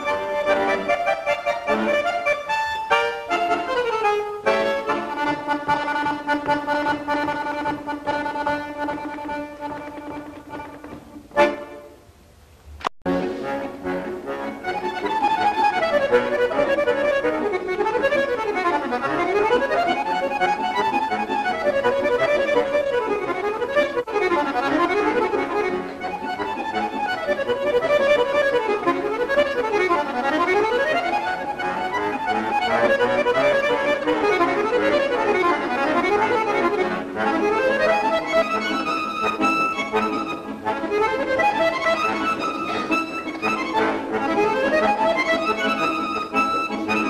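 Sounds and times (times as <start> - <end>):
button accordion playing: 0.0 - 12.0, 13.1 - 47.0.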